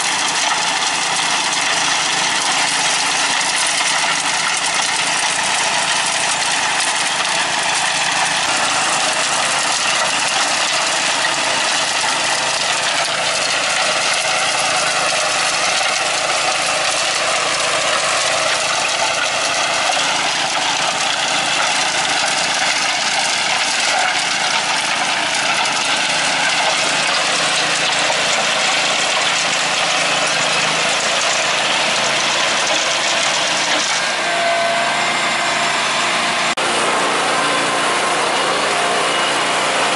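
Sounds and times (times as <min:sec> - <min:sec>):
rotary tiller churning soil: 0:00.0 - 0:39.9
tractor engine running: 0:00.0 - 0:39.9.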